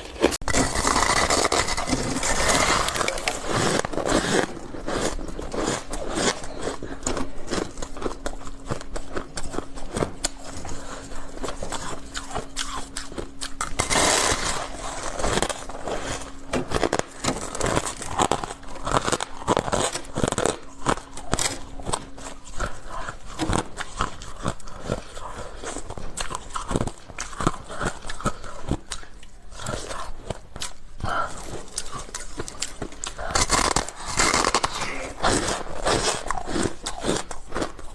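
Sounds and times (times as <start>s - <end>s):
chewing ice: 0.0s - 37.9s.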